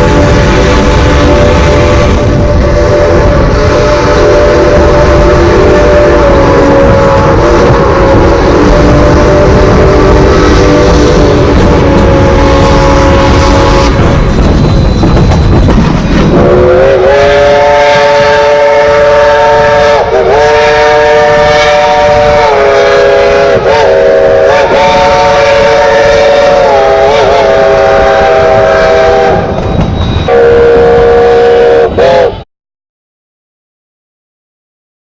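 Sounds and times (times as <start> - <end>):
steam locomotive whistle: 0.0 - 15.2, 16.3 - 32.5.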